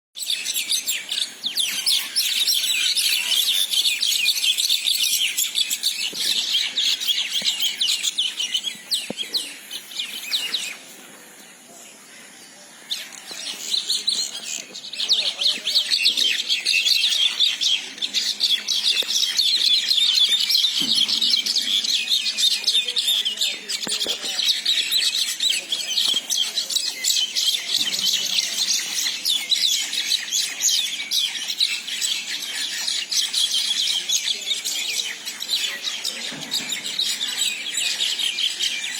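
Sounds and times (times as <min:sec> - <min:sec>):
small birds chirping rapidly: 0:00.2 - 0:38.9.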